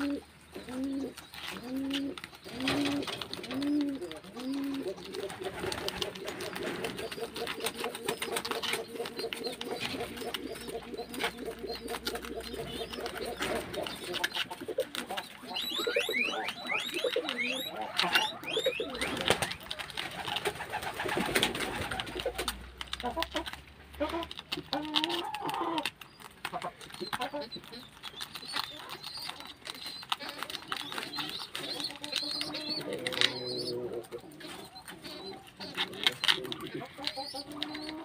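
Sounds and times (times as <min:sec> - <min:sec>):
guinea pig cooing calls: 0:00.0 - 0:38.0
guinea pigs chewing leaf: 0:00.0 - 0:38.0.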